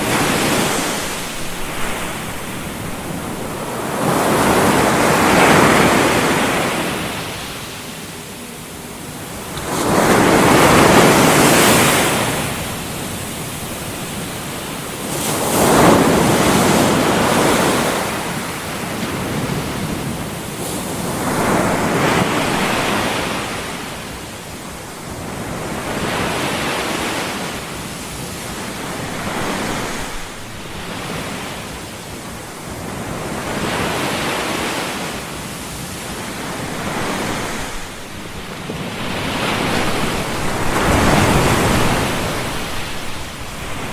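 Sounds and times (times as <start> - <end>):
white noise hiss: 0.0 - 43.9.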